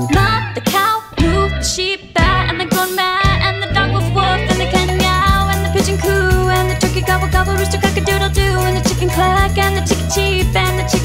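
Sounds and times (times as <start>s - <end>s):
upbeat children's song: 0.0s - 11.0s.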